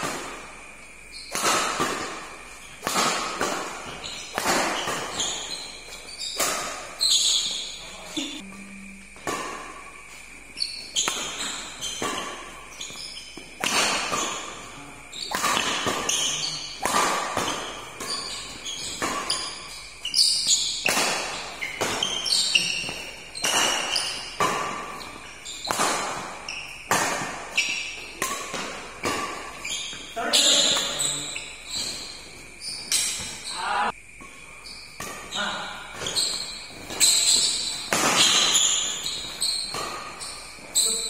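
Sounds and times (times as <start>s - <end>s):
rackets striking shuttlecock: 0.0s - 33.4s, 34.2s - 41.0s.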